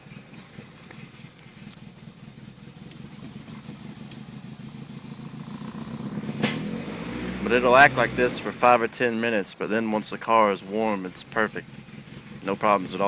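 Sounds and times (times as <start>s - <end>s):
car engine running rough: 0.0s - 13.0s.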